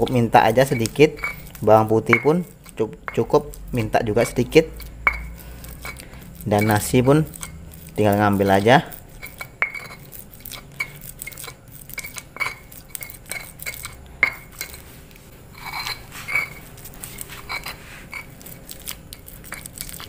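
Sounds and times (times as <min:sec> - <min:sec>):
stone pestle grinding in mortar: 0:00.0 - 0:20.0.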